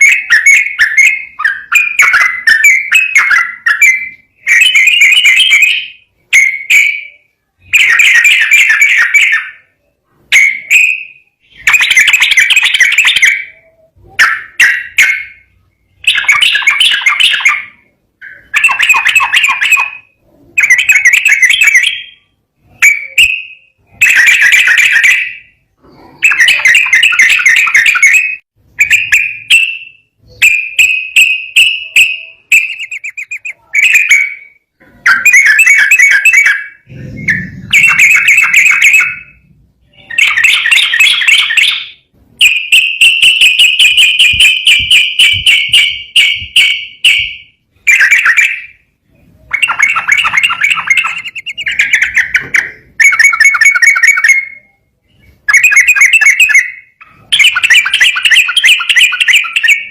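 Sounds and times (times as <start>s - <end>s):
bird singing chattering trills: 0.0s - 59.9s.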